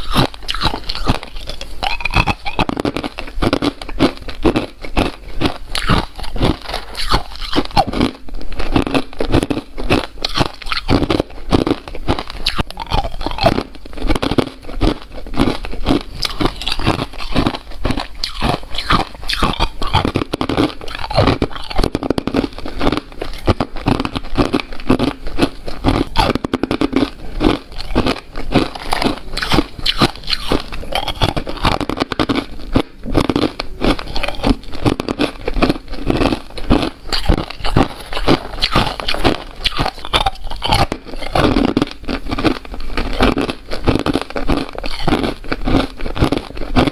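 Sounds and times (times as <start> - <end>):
person chewing crunchy ice: 0.0 - 46.9.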